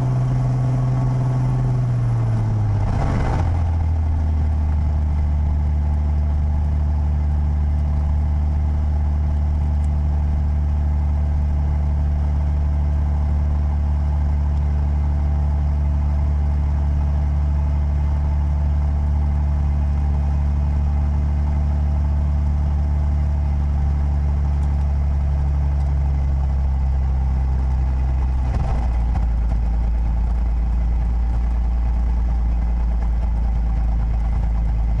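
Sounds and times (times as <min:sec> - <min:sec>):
propeller plane engine drone: 0:00.0 - 0:35.0.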